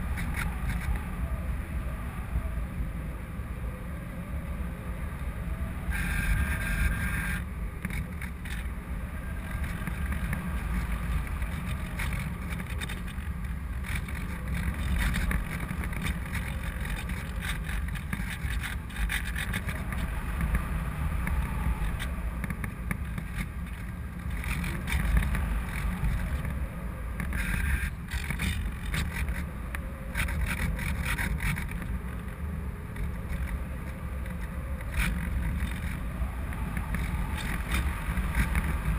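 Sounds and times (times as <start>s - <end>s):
high-pitched whine: 0.0s - 38.9s
wind buffeting camera: 0.0s - 38.9s.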